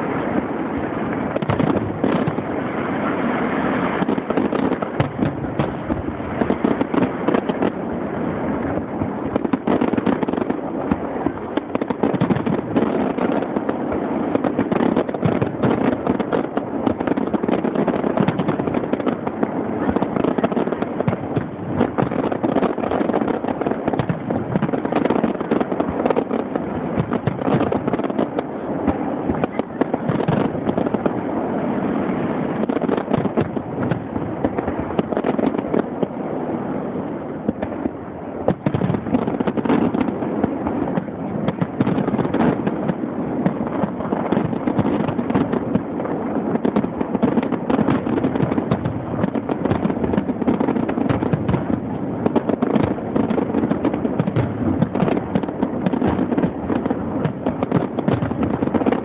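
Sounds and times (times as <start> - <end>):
fireworks barrage: 0.0 - 59.0.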